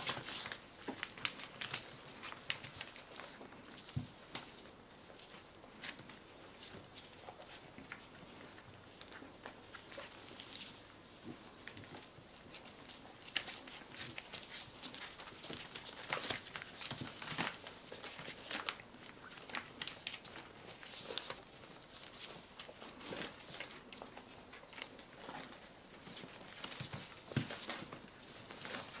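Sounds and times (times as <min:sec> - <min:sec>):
newspaper crinkling and rustling: 0:00.0 - 0:29.0.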